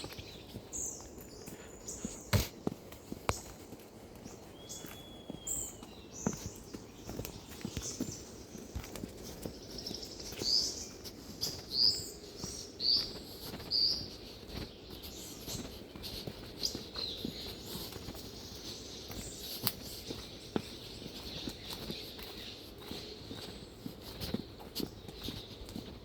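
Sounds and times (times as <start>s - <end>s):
footsteps on forest trail: 0.0s - 26.0s.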